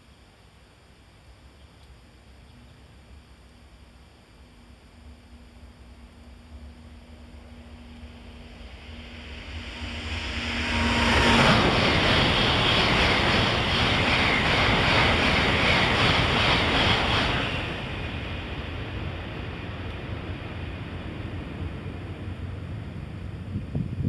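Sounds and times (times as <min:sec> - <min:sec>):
high-speed train rushing past: 0:04.3 - 0:24.0.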